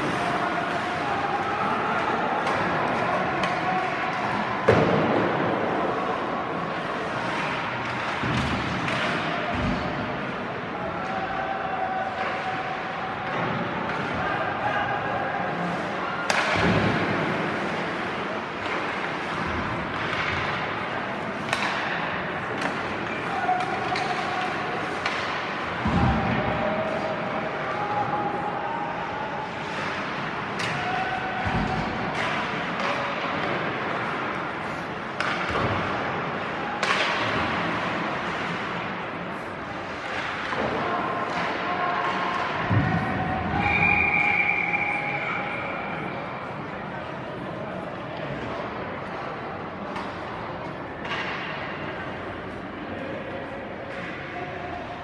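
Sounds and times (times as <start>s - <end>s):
hockey stick clacks: 0.0s - 10.3s, 15.7s - 27.1s, 29.0s - 45.2s, 47.9s - 53.1s, 53.8s - 55.0s
ice rink noise: 0.0s - 55.0s.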